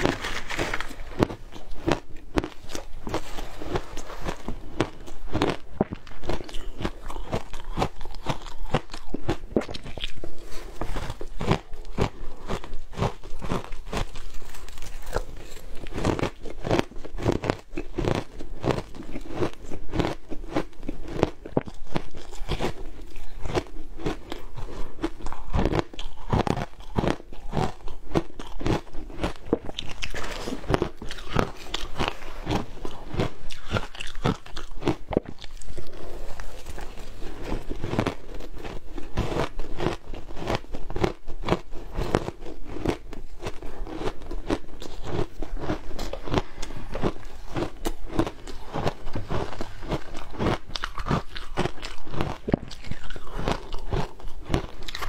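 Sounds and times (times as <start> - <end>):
shaved ice being chewed: 0.0 - 55.0.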